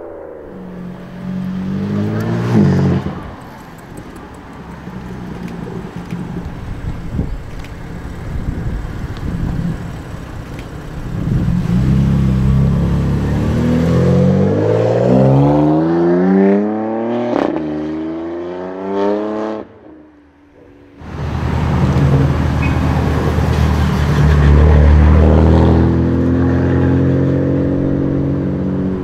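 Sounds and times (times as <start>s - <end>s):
car engine accelerating hard: 0.0s - 19.8s, 21.0s - 29.0s.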